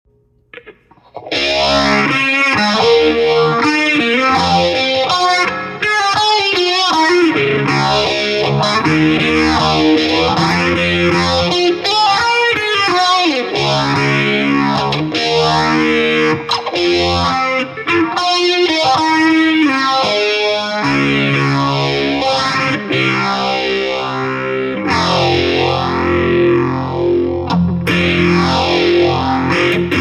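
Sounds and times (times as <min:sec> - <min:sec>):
distorted electric guitar music: 0:00.4 - 0:30.0.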